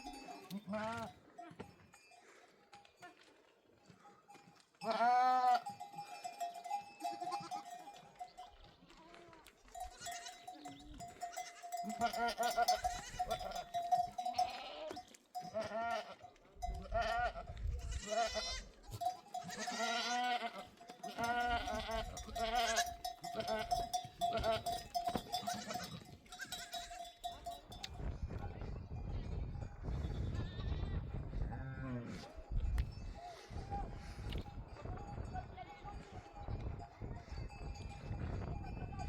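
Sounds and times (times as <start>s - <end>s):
sheep and goats bleating: 0.0s - 2.2s, 3.8s - 27.8s, 29.9s - 38.0s
livestock bell ringing: 0.0s - 30.6s, 31.5s - 39.0s.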